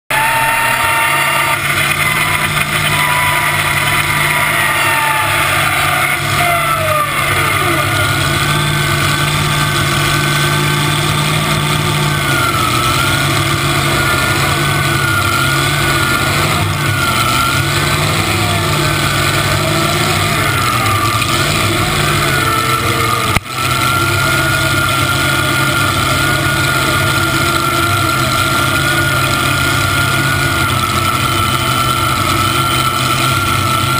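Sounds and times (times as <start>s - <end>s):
loud engine idling with open exhaust: 0.1s - 33.9s.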